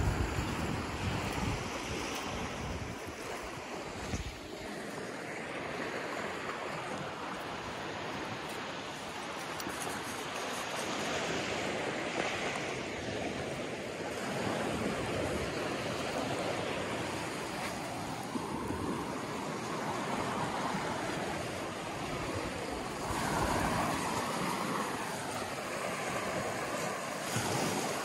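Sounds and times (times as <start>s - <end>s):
sea surf washing on shore: 0.0s - 28.0s
wind: 0.0s - 28.0s.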